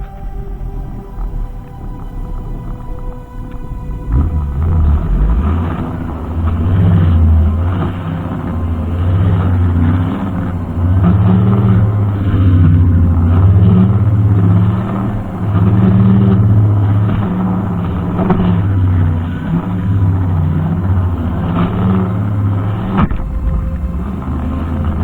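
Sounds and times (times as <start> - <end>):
brushcutter engine running: 0.0 - 25.0.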